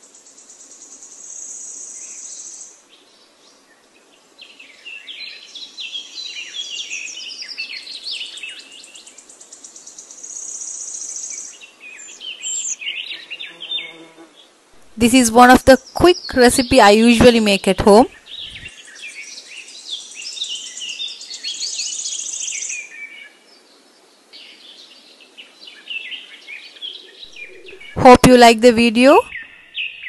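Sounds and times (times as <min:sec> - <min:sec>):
small birds singing: 0:00.0 - 0:30.0.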